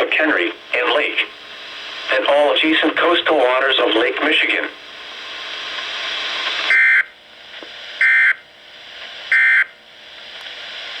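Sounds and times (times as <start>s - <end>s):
receiver hiss: 0.0s - 11.0s.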